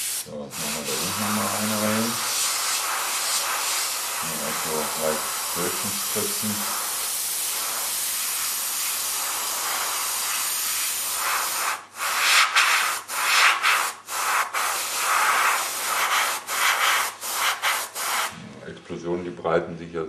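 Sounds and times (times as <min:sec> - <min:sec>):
airbrush spraying paint: 0:00.0 - 0:18.4.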